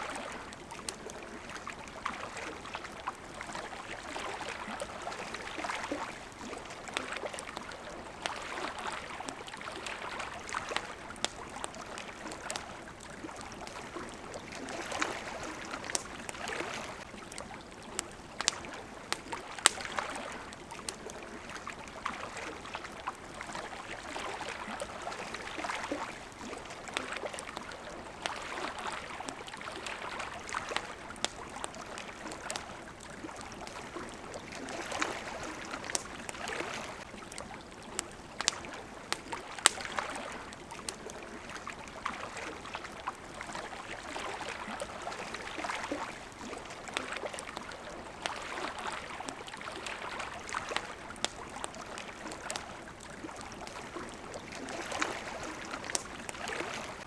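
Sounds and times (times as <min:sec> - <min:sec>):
campfire popping and crackling: 0:00.0 - 0:57.0
water lapping against shore: 0:00.0 - 0:57.0.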